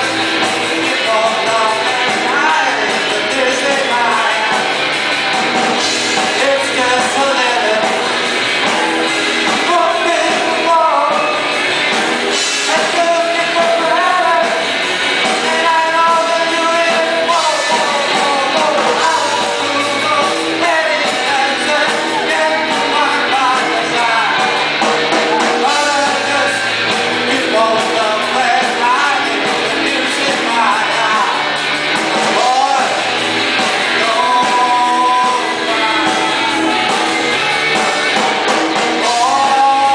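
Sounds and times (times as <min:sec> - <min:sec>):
person singing lead vocals: 0:00.0 - 0:39.9
rock band playing: 0:00.0 - 0:39.9.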